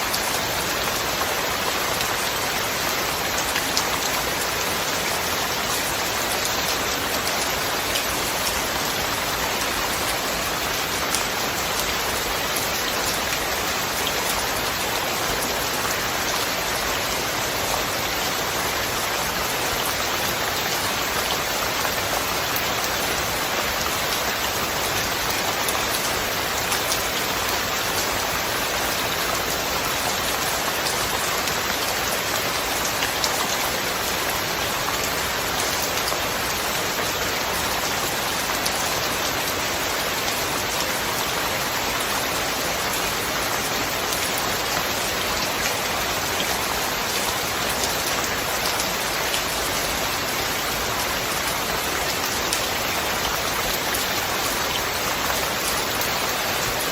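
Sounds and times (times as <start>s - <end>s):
steady rain hiss: 0.0s - 56.9s.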